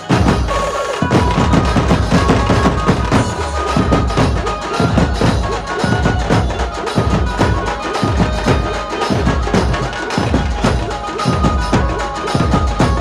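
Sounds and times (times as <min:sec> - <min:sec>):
band melody: 0:00.0 - 0:13.0
fast drums and percussion: 0:00.0 - 0:13.0.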